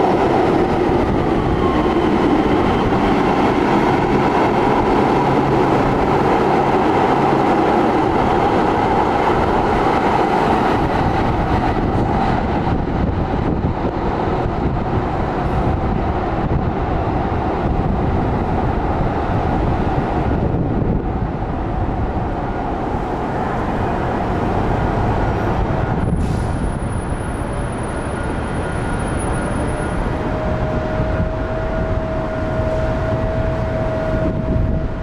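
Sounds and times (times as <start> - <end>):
train rumbling with whine: 0.0 - 35.0.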